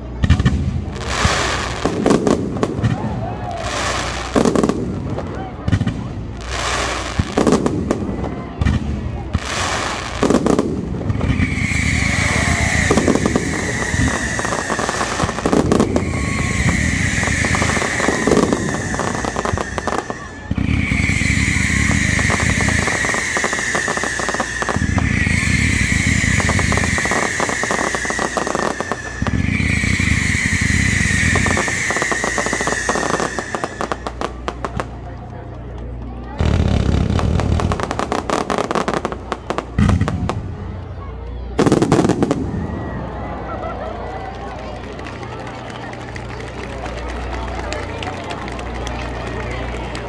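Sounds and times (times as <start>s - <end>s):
fireworks crackling: 0.0s - 50.0s
whistling fireworks: 0.0s - 50.0s.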